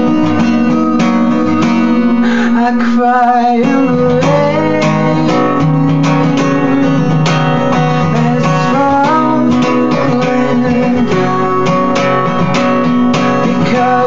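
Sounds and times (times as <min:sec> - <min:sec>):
acoustic guitar strumming: 0:00.0 - 0:14.0
person singing: 0:00.0 - 0:14.0.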